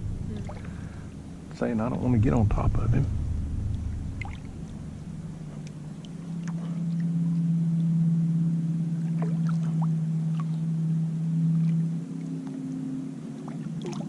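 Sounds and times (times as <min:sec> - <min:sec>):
motorboat engine droning: 0:00.0 - 0:14.0.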